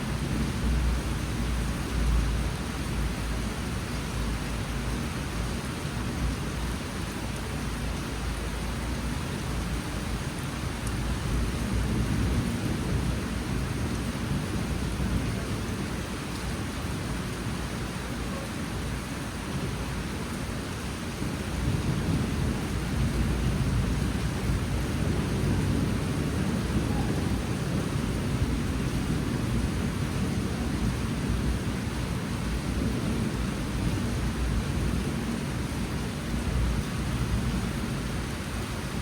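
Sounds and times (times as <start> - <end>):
heavy rain pouring: 0.0 - 39.0.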